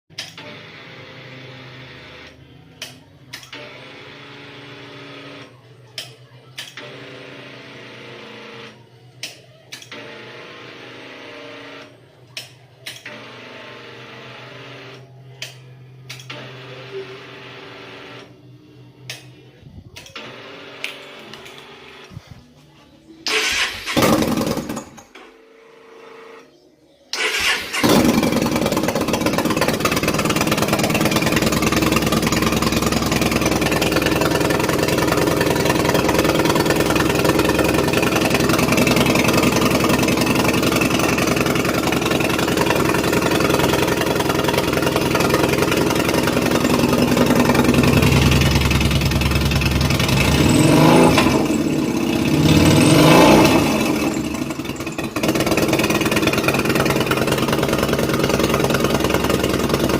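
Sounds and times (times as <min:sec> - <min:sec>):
motorcycle engine bursts: 0:00.1 - 0:26.4, 0:27.1 - 0:59.9
motorcycle engine running: 0:00.5 - 0:25.2, 0:27.2 - 0:59.9.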